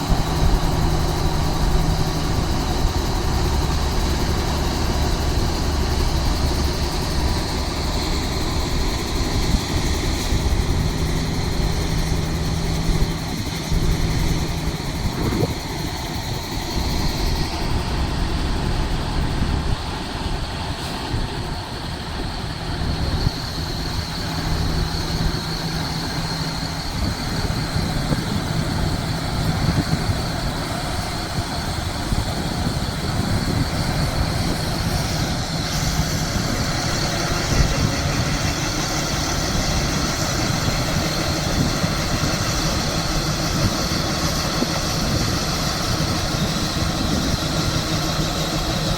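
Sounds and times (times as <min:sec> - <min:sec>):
engine rumbling: 0:00.0 - 0:48.9.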